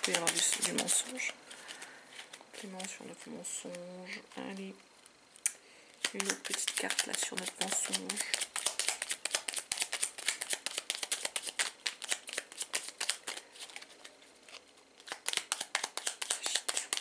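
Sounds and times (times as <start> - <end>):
cards shuffled by hand: 0.0 - 3.8, 6.0 - 17.0.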